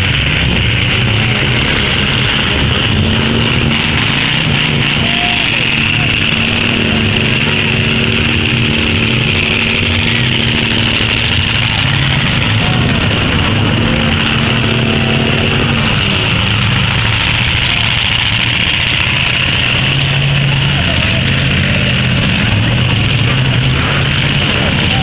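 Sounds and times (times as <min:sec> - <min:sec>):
car engines running: 0:00.0 - 0:25.0.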